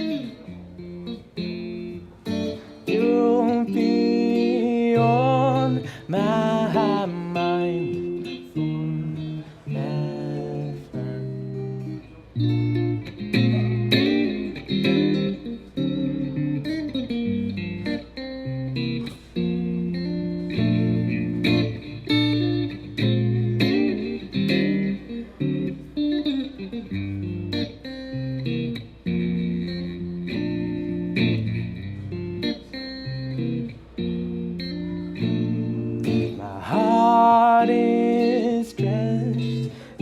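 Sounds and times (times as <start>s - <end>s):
guitar playing instrumental: 0.0s - 40.0s.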